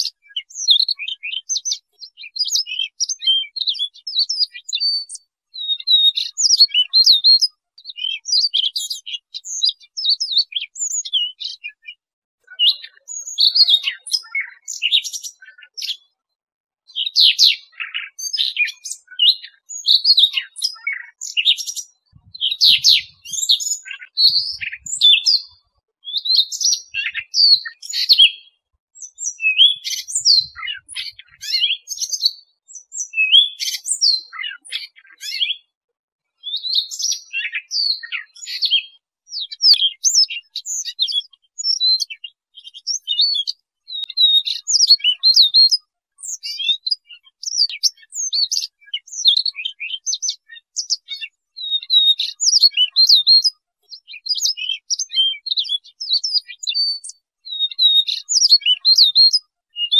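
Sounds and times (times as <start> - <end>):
bird warbling song: 0.0 - 16.1, 16.9 - 35.7, 36.4 - 59.9.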